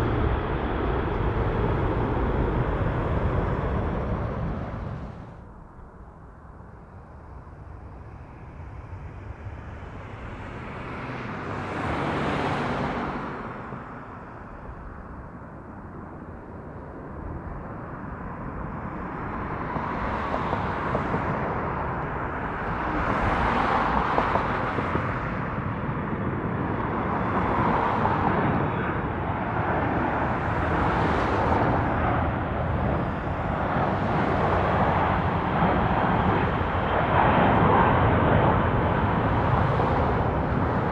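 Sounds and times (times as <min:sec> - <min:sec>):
jet aircraft engine: 0:00.0 - 0:40.9.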